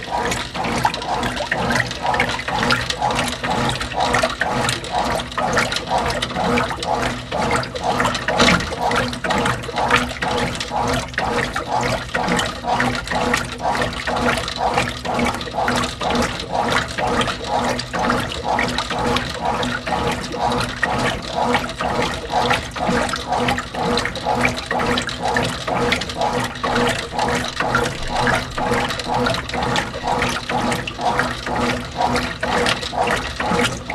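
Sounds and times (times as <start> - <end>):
motor hum: 0.0 - 33.9
washing machine agitator churning: 0.0 - 33.9.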